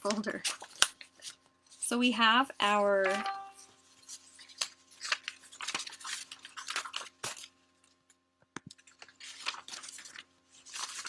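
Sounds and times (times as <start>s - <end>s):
paper rustling: 0.0s - 1.8s, 2.7s - 8.1s, 8.7s - 11.0s.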